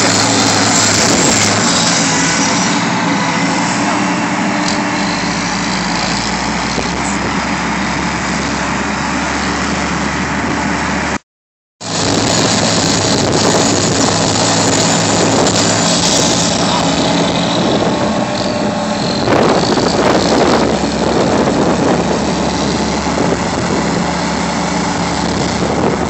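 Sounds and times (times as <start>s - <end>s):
tractor diesel engine running: 0.0s - 11.2s, 11.8s - 26.0s.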